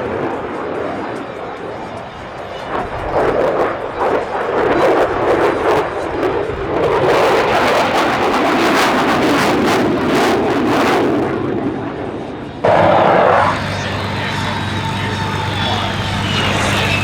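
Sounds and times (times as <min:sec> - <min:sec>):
jet aircraft flying past: 0:00.0 - 0:17.0.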